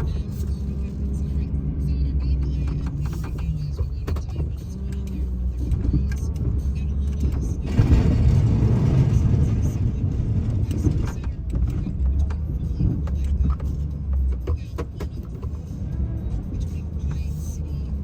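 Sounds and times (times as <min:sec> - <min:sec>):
snowplow truck rumbling: 0:00.0 - 0:18.0.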